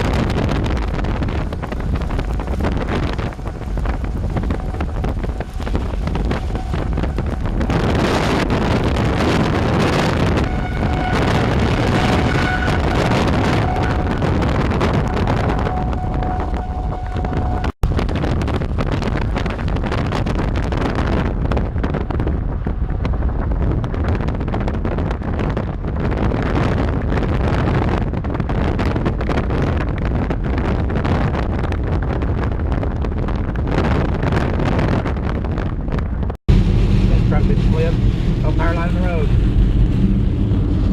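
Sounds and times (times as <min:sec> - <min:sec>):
truck road noise: 0:00.0 - 0:32.5, 0:36.5 - 0:40.9
wind rushing over microphone: 0:00.0 - 0:40.9.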